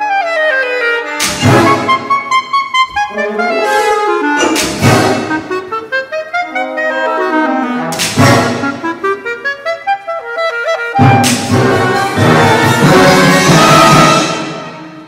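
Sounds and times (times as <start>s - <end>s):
solo clarinet: 0.0s - 14.2s
symphony orchestra: 0.0s - 15.0s.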